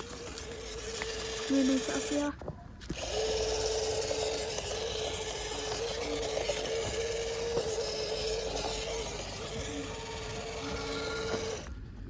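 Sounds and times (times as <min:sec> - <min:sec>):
toy car motor whining: 0:00.0 - 0:11.8.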